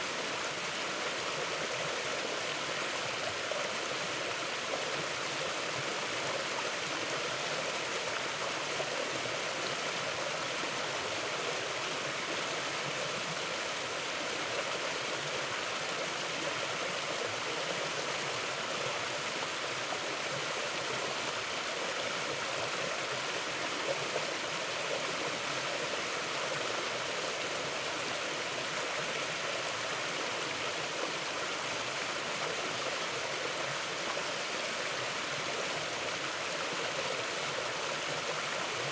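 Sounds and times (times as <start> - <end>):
mountain stream rushing: 0.0 - 38.9.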